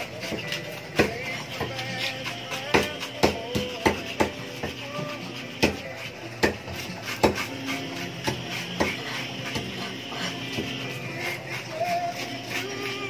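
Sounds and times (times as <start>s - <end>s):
knife scraping fish scales: 0.0s - 13.0s.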